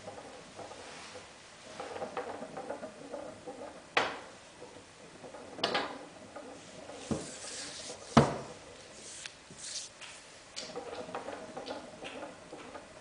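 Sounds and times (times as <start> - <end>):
cue rolling on stone countertop: 0.0 - 13.0.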